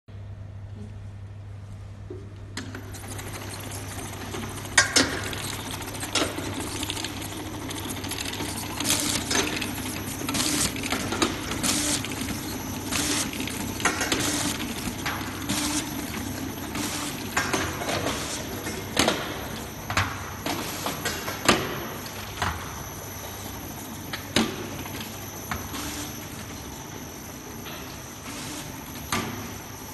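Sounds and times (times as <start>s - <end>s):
labeling machine hum and hiss: 0.7s - 29.9s.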